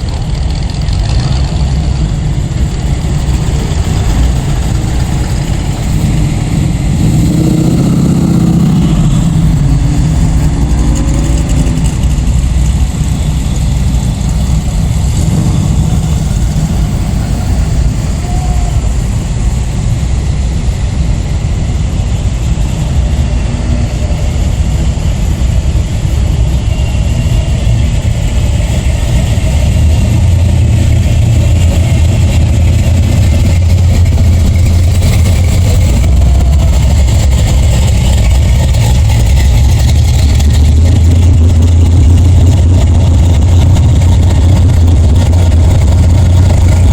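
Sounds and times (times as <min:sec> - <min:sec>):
car engines rumbling: 0:00.0 - 0:46.9
engine revs: 0:00.0 - 0:46.9.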